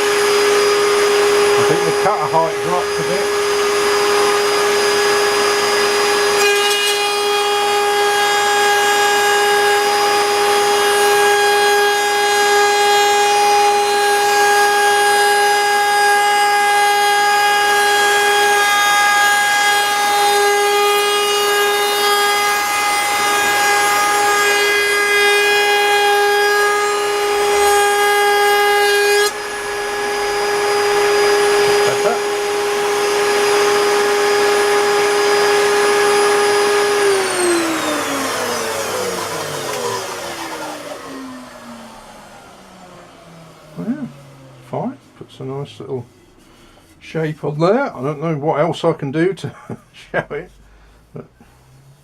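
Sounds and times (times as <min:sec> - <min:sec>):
router cutting wood edge: 0:00.0 - 0:45.2
router spinning with high whine: 0:00.0 - 0:45.2
dust extraction vacuum running: 0:00.0 - 0:48.1.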